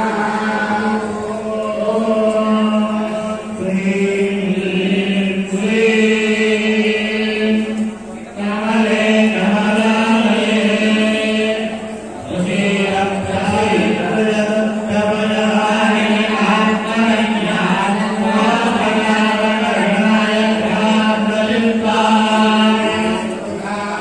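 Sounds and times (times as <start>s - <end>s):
voices chanting mantra: 0.0s - 24.0s.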